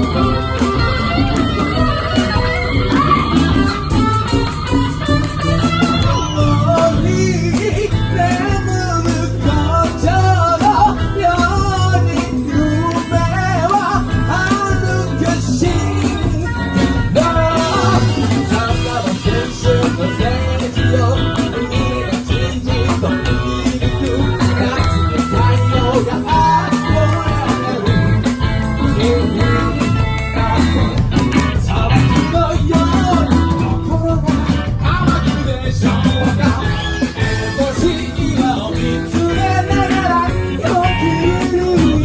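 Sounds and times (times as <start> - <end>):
live pop-rock band playing: 0.0 - 42.0
man singing into microphone: 5.8 - 42.0.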